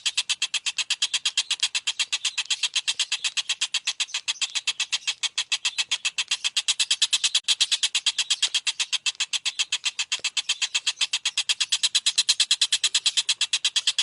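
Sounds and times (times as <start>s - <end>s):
songbird trilling: 0.0s - 14.0s.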